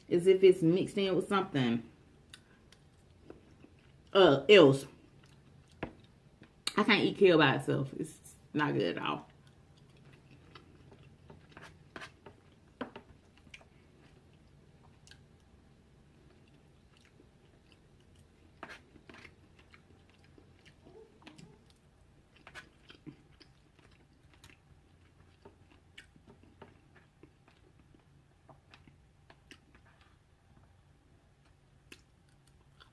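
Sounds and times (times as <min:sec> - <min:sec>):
person chewing food: 0:02.2 - 0:04.1, 0:05.0 - 0:06.7, 0:09.3 - 0:32.9.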